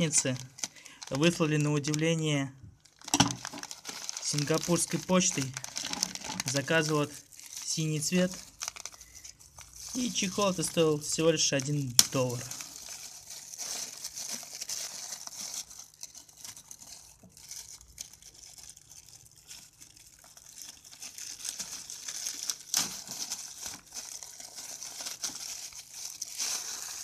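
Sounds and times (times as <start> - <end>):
plastic bag crinkling: 0.0 - 27.0.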